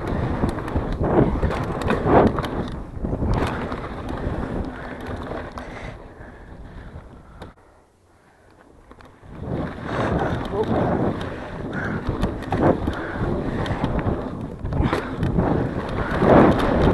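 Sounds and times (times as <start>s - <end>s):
bike clicks and rattles: 0.0s - 7.6s, 8.3s - 16.9s
wind buffeting microphone: 0.0s - 7.6s, 8.9s - 16.9s.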